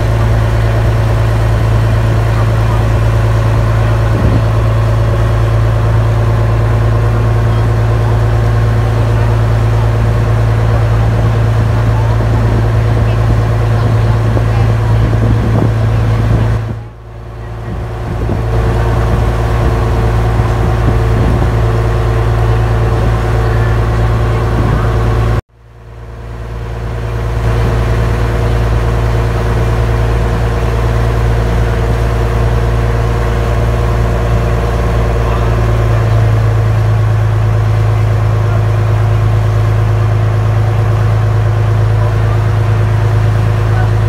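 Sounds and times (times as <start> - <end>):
boat engine humming: 0.0 - 44.0.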